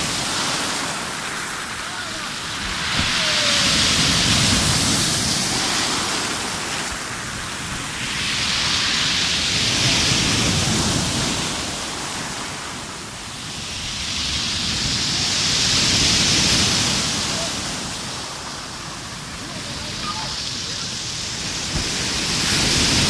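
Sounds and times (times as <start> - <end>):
sea waves breaking: 0.0 - 23.0.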